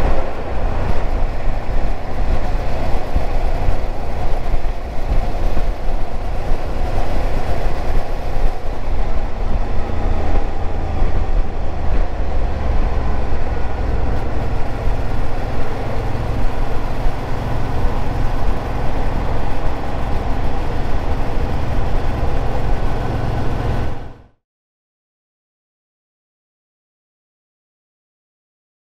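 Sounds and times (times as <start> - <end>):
wind on microphone: 0.0 - 24.2
motorcycle engine running: 0.0 - 24.3.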